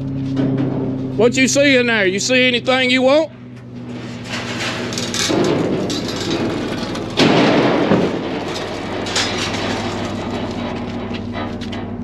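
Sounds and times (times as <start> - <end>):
vehicle engine idling: 0.0 - 12.0
scrap metal crashing: 0.2 - 12.0.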